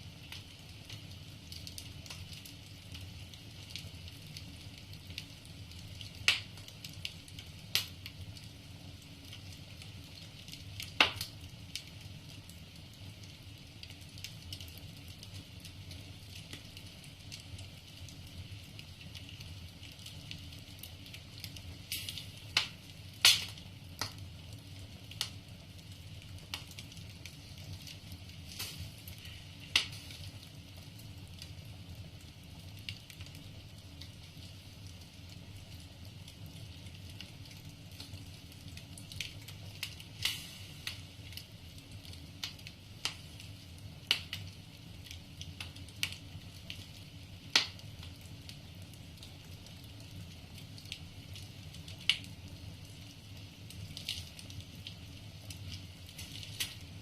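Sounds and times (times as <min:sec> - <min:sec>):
burning logs popping: 0:00.0 - 0:57.0
low rumble of flames: 0:00.0 - 0:57.0.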